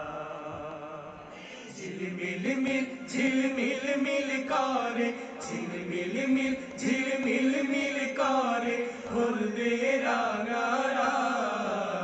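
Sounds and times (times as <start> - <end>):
wedding song with singing: 0.0 - 12.0.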